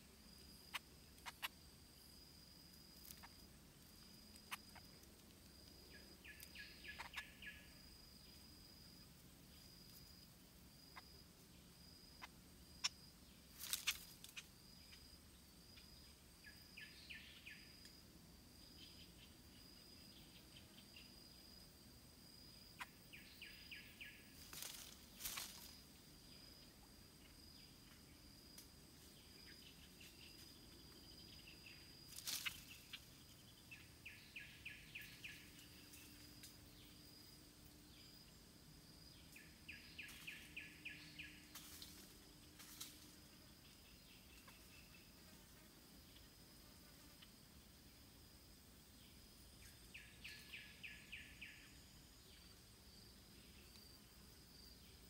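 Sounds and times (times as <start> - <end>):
insect pulsing buzz: 0.0 - 55.0.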